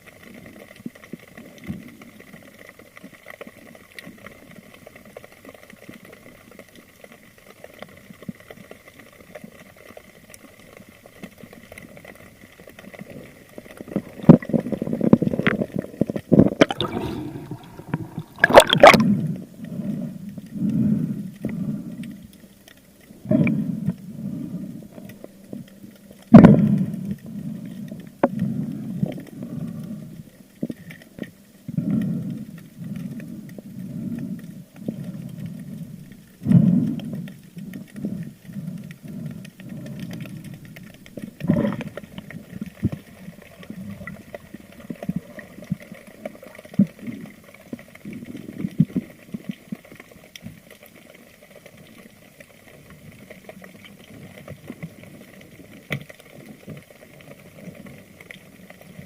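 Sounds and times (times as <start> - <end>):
muffled underwater water noise: 0.0 - 59.0.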